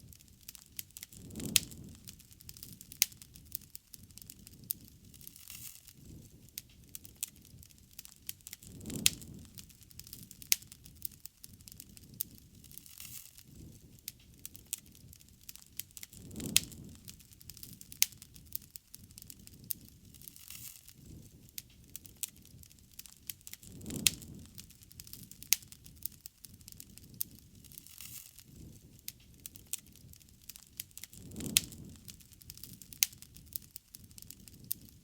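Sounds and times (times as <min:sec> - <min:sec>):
bonfire crackling: 0:00.0 - 0:35.0
low rush of flame: 0:00.0 - 0:35.0.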